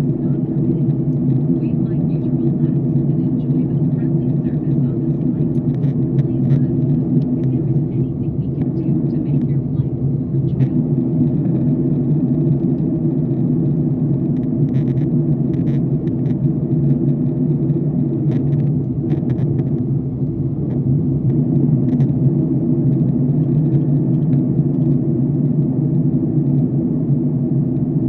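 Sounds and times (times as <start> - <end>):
airliner cabin drone: 0.0 - 28.0.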